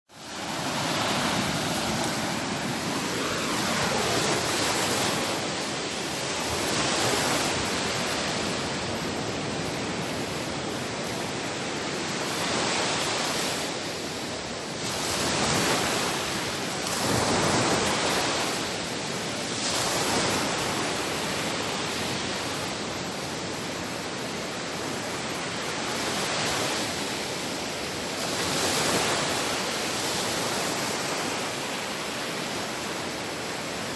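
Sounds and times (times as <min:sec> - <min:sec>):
sea waves breaking on shore: 0:00.1 - 0:33.9.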